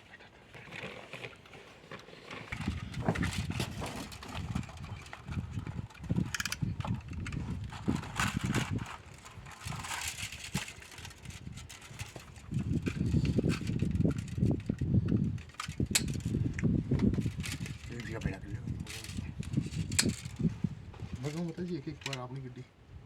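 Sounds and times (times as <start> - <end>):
knife scraping cable insulation: 0.2 - 20.5.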